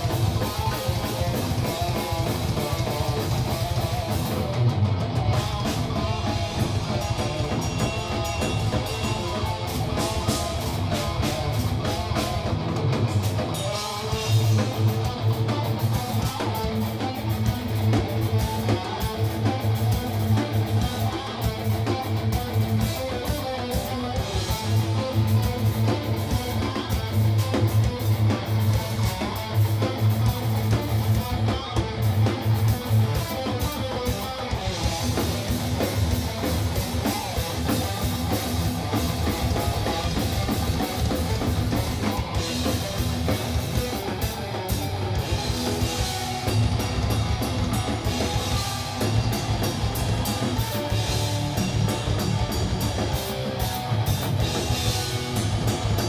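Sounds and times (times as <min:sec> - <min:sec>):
electric guitars: 0:00.0 - 0:56.0
rapid dense drumming: 0:00.0 - 0:56.0.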